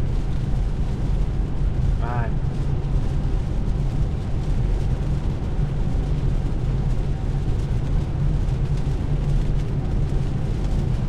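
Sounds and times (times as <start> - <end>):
low road rumble: 0.0 - 11.0
rain and wet tyres hissing: 0.0 - 11.0.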